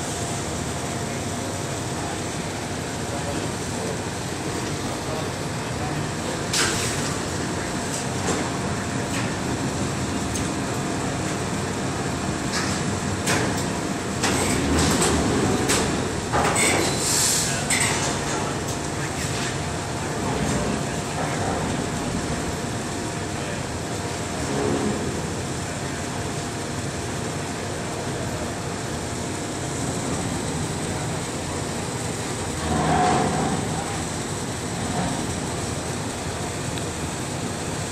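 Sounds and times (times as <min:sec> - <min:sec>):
machinery rumble and hiss: 0:00.0 - 0:37.9.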